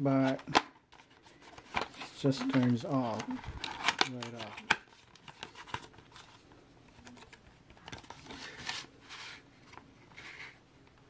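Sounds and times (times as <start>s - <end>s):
packaging rustles: 0.2s - 10.6s.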